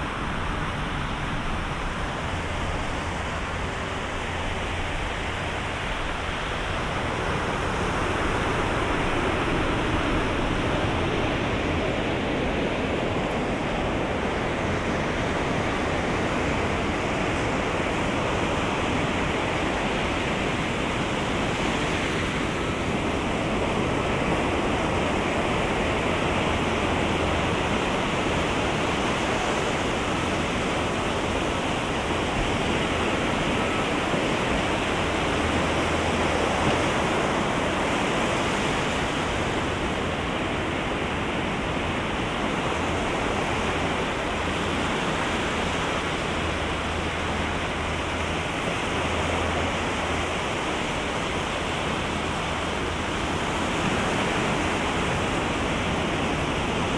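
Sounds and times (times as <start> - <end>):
ocean surf rushing: 0.0 - 56.9.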